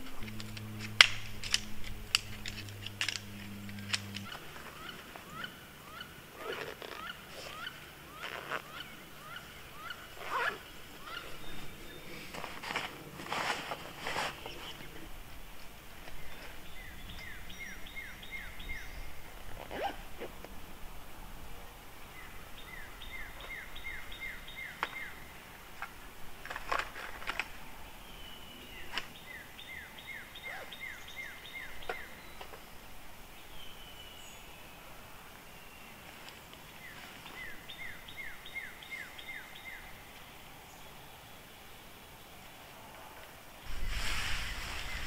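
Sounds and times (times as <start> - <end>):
songbird singing: 0.0 - 45.0.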